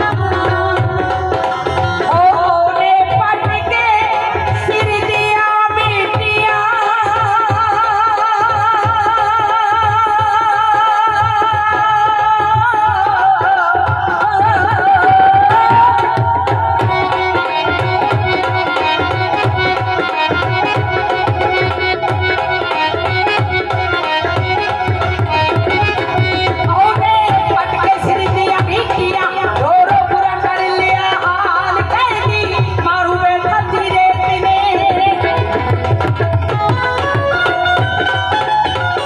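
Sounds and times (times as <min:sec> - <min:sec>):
dholak drum beat: 0:00.0 - 0:39.0.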